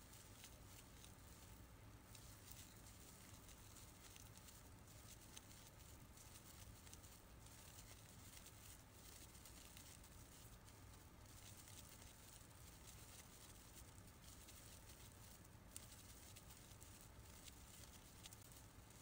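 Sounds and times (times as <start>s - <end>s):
yarn rustling: 0.0s - 19.0s.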